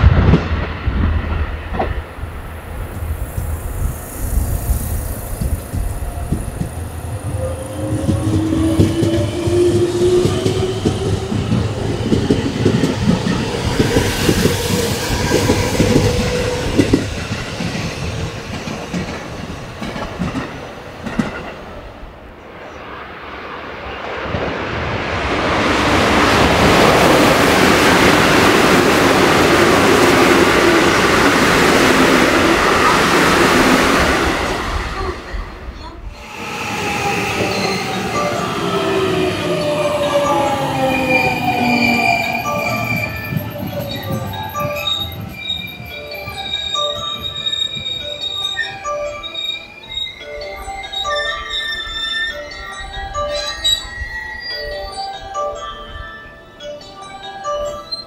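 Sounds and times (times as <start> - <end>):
train passing at speed: 0.0 - 58.0.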